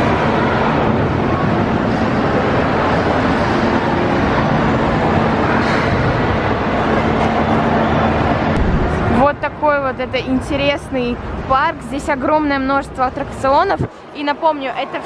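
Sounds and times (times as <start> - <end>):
amusement park rides rumbling: 0.0 - 15.0.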